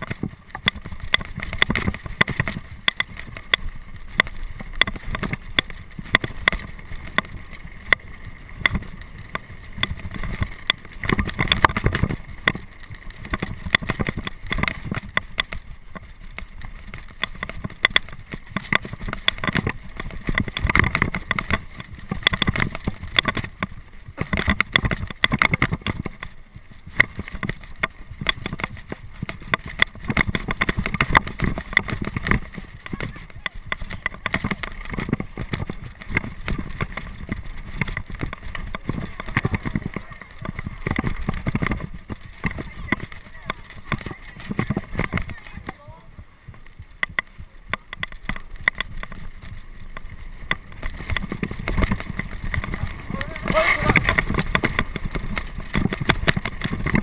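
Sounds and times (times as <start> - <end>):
mountain bike rattling over rocks: 0.0 - 57.0
wind buffeting microphone: 0.0 - 57.0.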